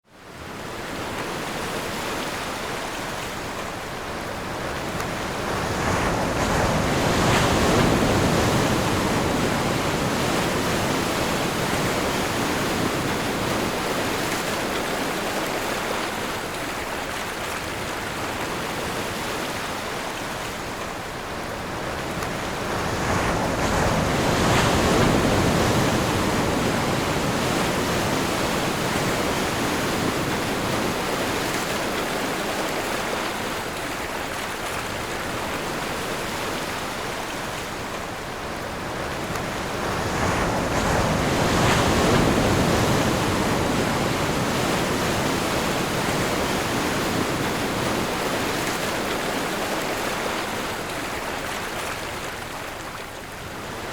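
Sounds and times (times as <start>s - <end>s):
ocean waves breaking on shore: 0.2s - 53.9s.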